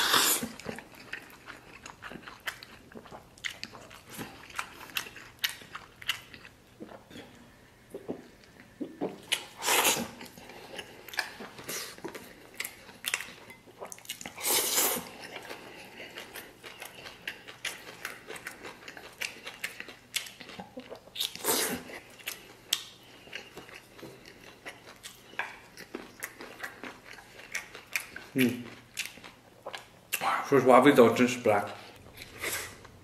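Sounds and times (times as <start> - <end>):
chewing: 0.0 - 30.3.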